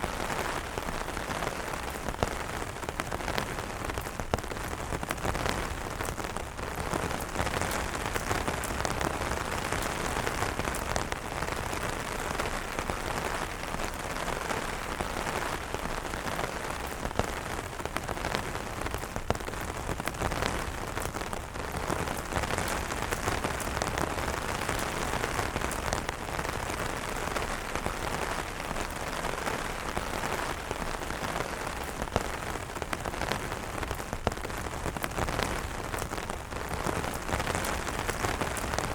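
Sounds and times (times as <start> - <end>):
heavy rain on umbrellas: 0.0 - 38.9.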